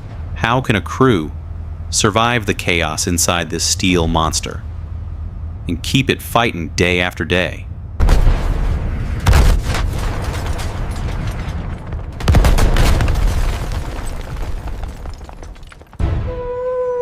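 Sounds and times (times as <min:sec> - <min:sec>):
deep rumble: 0:00.0 - 0:17.0.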